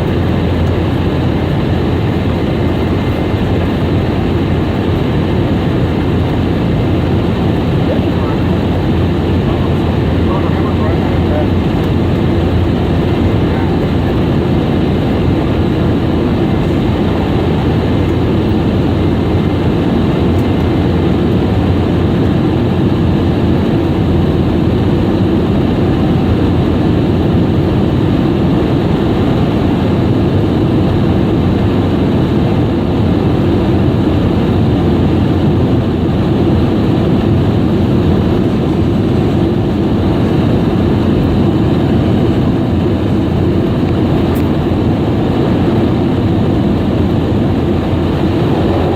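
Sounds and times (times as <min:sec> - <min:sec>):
jet engine cabin noise: 0:00.0 - 0:48.9.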